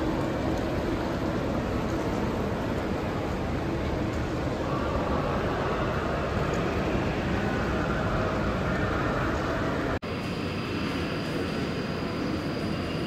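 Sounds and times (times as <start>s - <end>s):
faint high whine: 0.0s - 13.0s
traffic: 0.0s - 13.0s.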